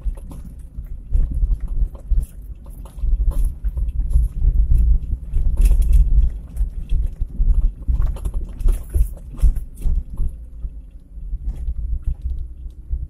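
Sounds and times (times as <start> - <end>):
car body knocking and rattling: 0.0 - 13.0
engine and tyres rumbling: 0.0 - 13.0.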